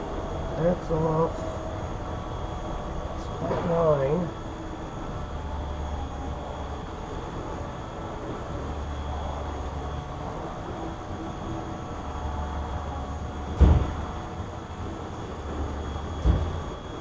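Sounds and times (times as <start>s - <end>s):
faint high whine: 0.0s - 17.0s
low machine rumble: 0.0s - 17.0s.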